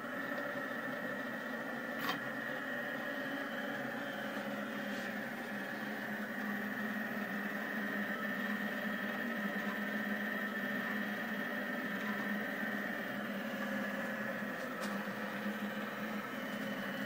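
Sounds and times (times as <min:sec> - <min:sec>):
three-d printer motors whining: 0:00.0 - 0:17.0.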